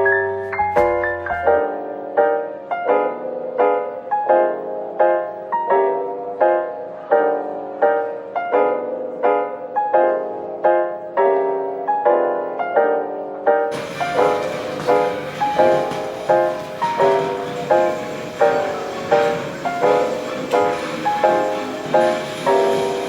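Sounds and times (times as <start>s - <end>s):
gentle piano repeated chords: 0.0s - 23.0s.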